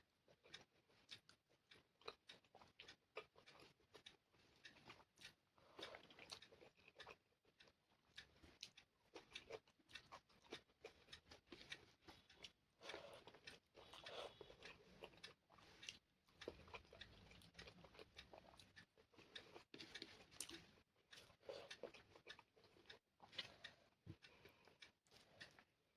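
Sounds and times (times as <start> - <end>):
chewing with mouth clicks: 0.2 - 25.9.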